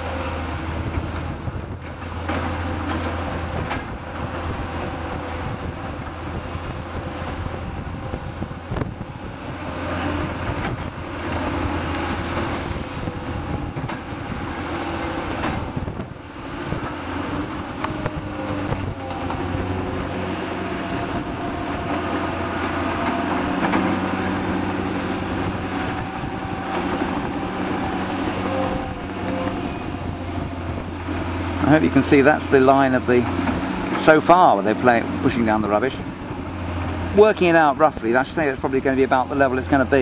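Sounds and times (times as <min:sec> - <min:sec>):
diesel excavator engines: 0:00.0 - 0:40.0.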